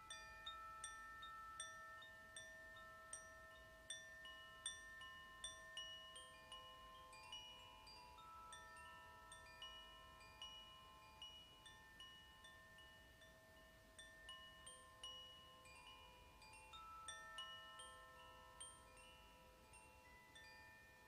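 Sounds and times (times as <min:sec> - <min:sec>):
wind chime ringing: 0:00.0 - 0:21.0.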